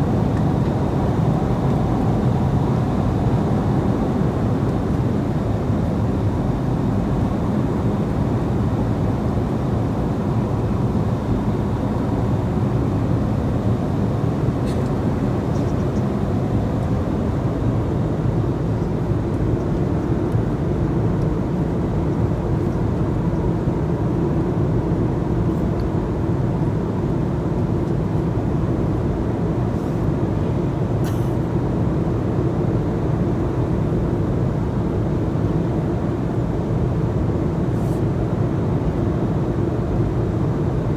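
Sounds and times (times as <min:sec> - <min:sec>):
airliner engines droning: 0:00.0 - 0:40.9.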